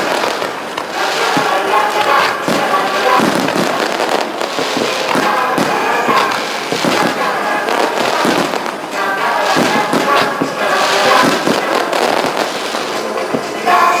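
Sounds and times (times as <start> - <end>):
fireworks bursting and crackling: 0.0 - 14.0
music playing: 0.0 - 14.0.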